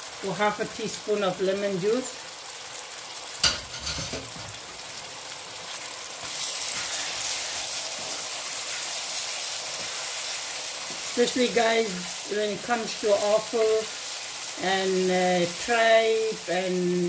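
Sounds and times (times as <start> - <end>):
kidney pieces sizzling in pan: 0.0 - 17.0.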